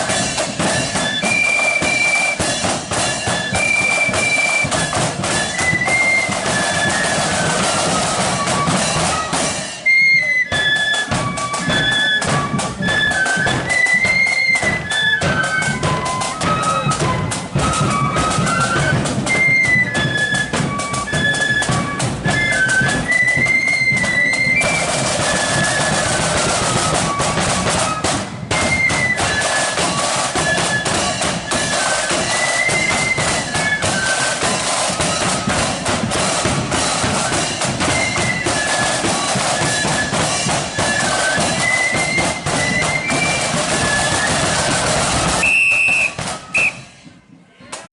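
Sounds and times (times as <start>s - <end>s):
snare and bass drums: 0.0s - 47.0s
marching flute band: 0.0s - 47.9s.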